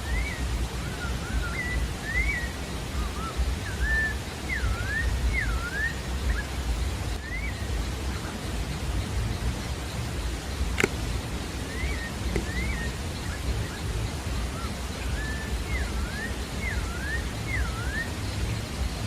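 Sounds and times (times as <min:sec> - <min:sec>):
bird whistling song: 0:00.0 - 0:19.0
low background noise: 0:00.0 - 0:19.0.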